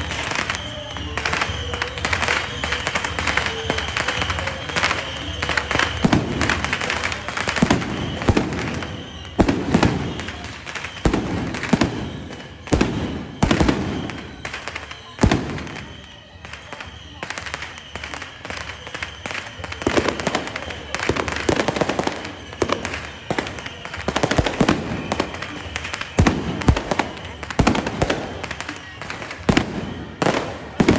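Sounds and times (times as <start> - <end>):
firecrackers crackling and banging: 0.0 - 30.9.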